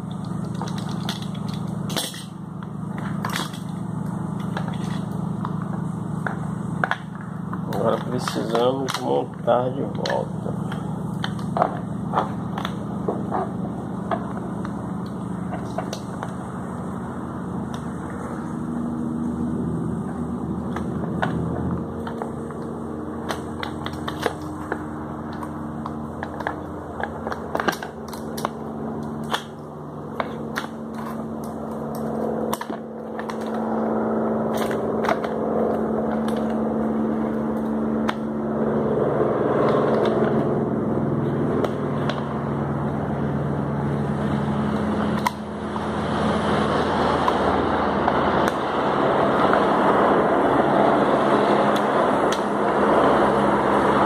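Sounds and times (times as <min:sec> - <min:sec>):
low humming: 0:00.0 - 0:54.0.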